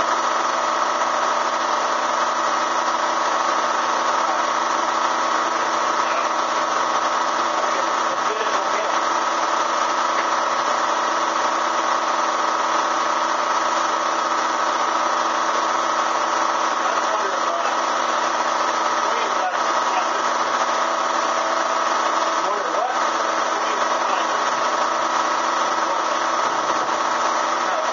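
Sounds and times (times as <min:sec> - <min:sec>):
vacuum motor humming: 0:00.0 - 0:27.9.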